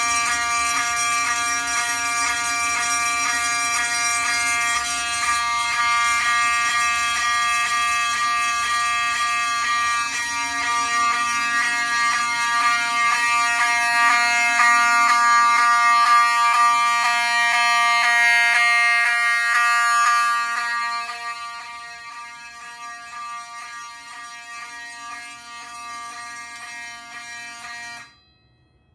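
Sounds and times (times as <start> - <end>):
fire alarm horn pulsing: 0.0 - 28.3.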